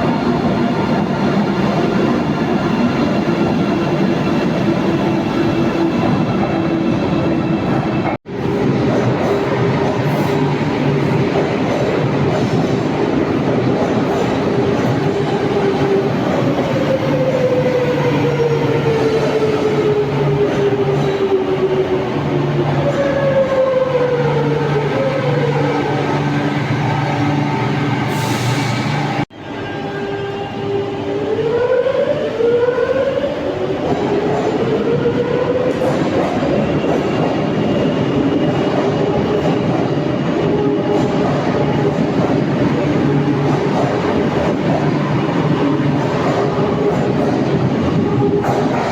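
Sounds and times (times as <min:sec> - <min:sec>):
metro train rumbling: 0:00.0 - 0:48.9.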